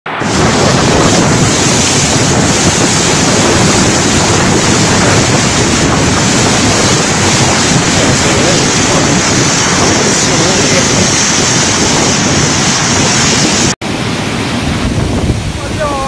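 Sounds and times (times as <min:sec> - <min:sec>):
wind blasting the microphone: 0:00.0 - 0:16.0
heavy rain pouring: 0:00.1 - 0:16.0.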